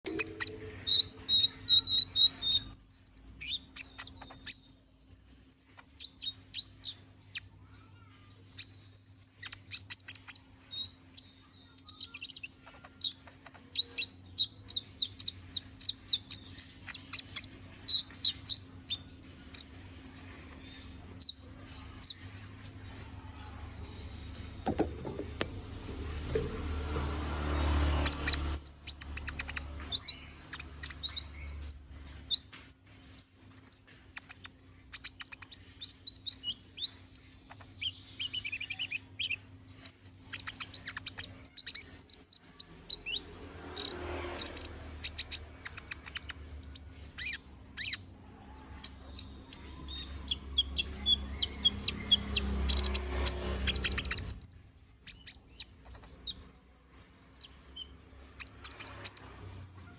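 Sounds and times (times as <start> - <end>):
bird singing high chirps and trills: 0.0 - 59.9.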